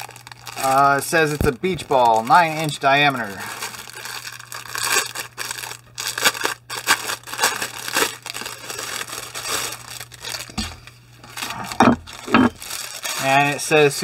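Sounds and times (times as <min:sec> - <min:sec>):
plastic crinkling and crackling: 0:00.0 - 0:14.0.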